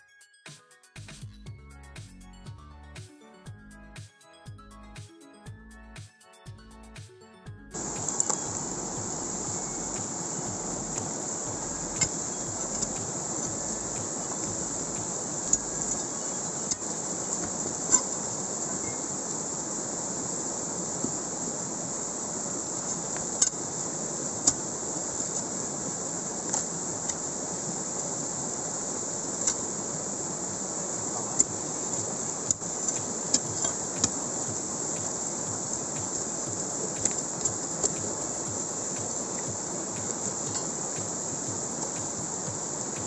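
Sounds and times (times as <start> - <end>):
stream rushing over rocks: 7.8 - 43.0.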